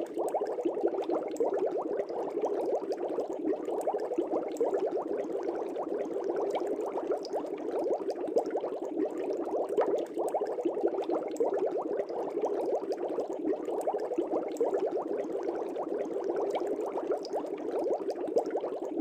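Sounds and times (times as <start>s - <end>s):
aquarium air bubbles: 0.0s - 19.0s.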